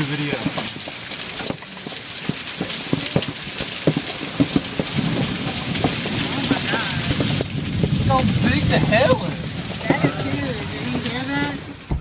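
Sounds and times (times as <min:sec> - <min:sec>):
hail falling: 0:00.0 - 0:12.0
hailstones striking hard surfaces: 0:00.0 - 0:12.0.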